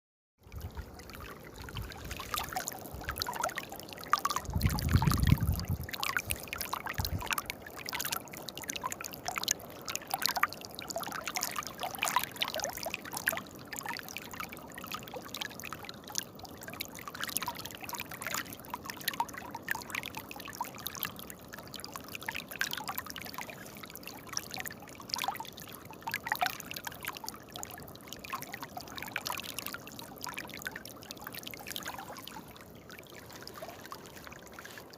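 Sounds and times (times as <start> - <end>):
stream trickling over rocks: 0.4 - 34.9.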